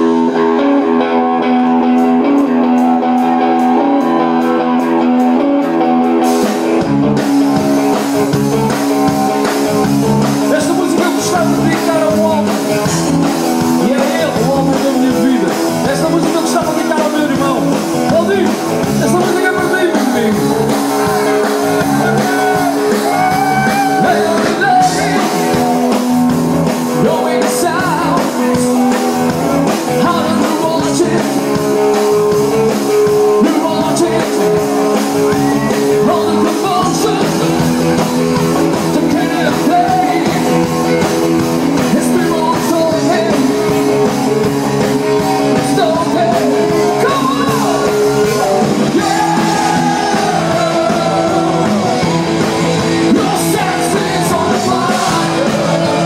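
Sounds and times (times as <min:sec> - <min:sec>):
bass and drums: 0:00.0 - 0:56.0
electric guitar: 0:00.0 - 0:56.0
man singing: 0:07.6 - 0:56.0.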